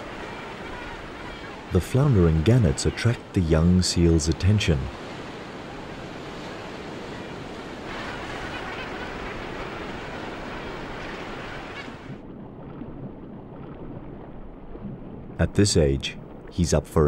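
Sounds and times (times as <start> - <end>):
surf breaking: 0.0 - 16.6
muffled underwater water sound: 0.0 - 17.0.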